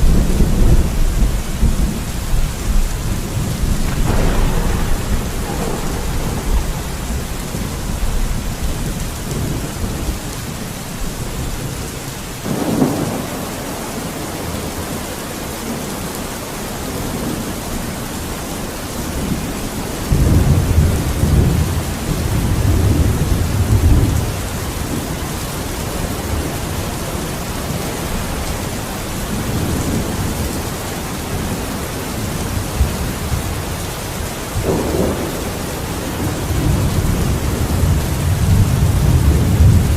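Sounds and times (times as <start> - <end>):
thunder rumbling: 0.0 - 14.9, 18.8 - 31.6, 32.2 - 39.9
heavy rain: 0.0 - 39.9.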